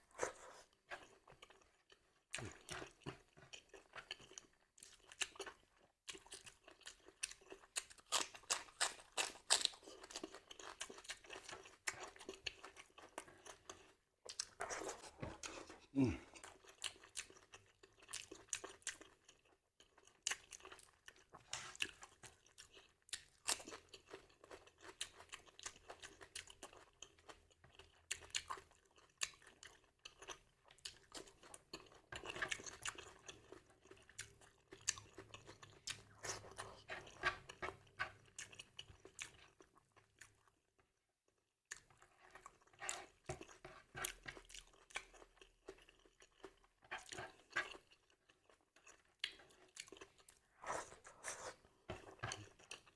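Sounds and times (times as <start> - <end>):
person chewing crunchy food: 0.0 - 40.6, 41.7 - 52.9.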